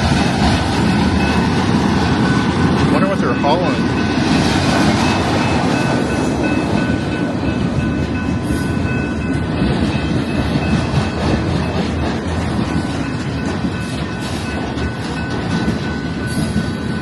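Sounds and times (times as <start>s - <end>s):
freight train rumbling on track: 0.0s - 17.0s.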